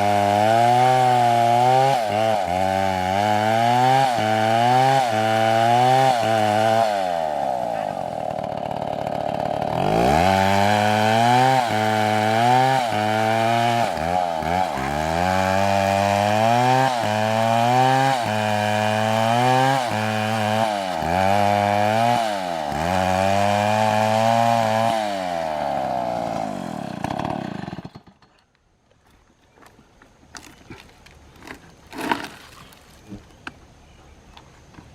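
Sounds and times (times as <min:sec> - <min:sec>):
chainsaw cutting wood: 0:00.0 - 0:28.4, 0:30.3 - 0:32.8.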